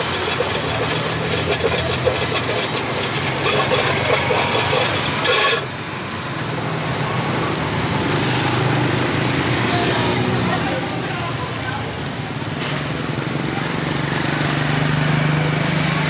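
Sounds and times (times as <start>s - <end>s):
passing vehicle engines: 0.0s - 16.0s.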